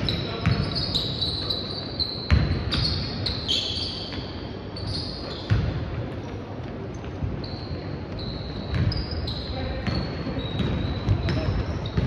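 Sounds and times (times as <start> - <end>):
sneakers squeaking on court: 0.0 - 12.0.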